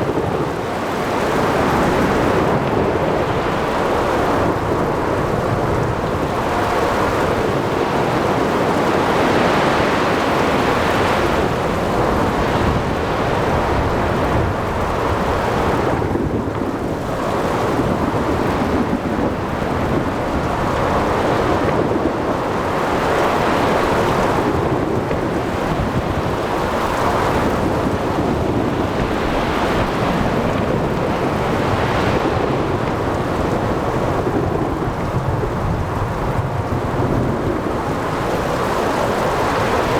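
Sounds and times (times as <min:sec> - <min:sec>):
breaking waves: 0:00.0 - 0:39.9
wind: 0:00.0 - 0:39.9.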